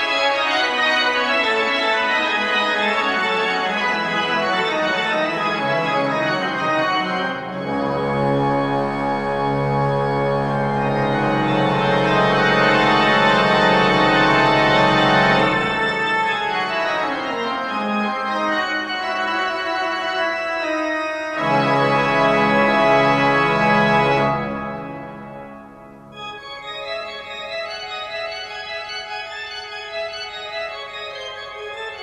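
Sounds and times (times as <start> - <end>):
sustained organ chords: 0.0 - 32.0.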